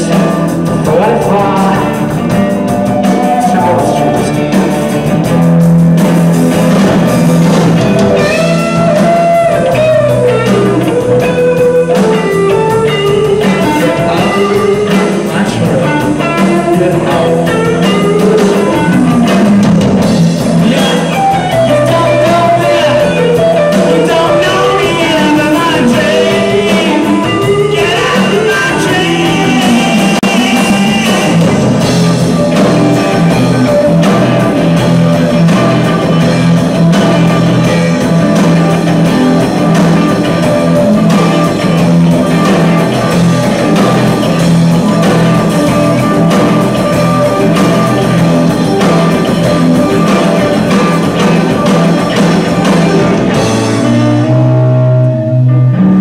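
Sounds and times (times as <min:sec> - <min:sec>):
live rock band: 0:00.0 - 0:56.0.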